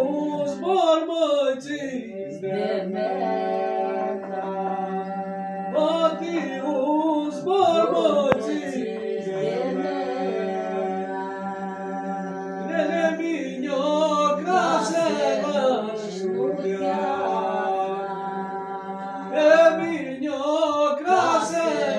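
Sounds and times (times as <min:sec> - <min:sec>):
voices singing folk song: 0:00.0 - 0:21.9.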